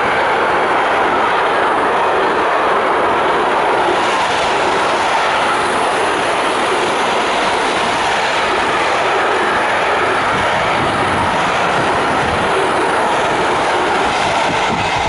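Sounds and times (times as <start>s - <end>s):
freight train wheels rolling on rails: 0.0s - 15.0s.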